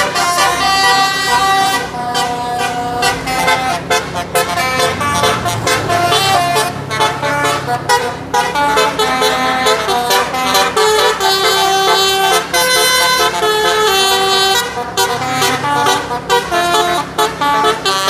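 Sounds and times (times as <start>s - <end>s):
low steady drone: 0.0s - 18.0s
multi-tone bus horn tune: 0.0s - 18.0s.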